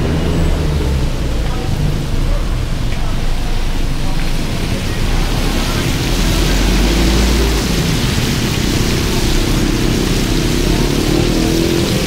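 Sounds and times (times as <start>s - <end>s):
hot oil sizzling: 0.0s - 12.0s
low rumble: 0.0s - 12.0s.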